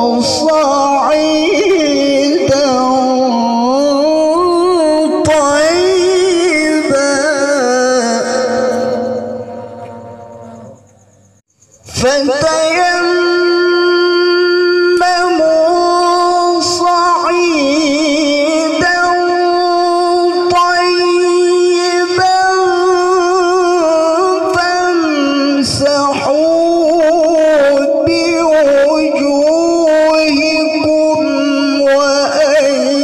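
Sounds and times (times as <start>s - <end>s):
man chanting melodically: 0.0s - 33.0s.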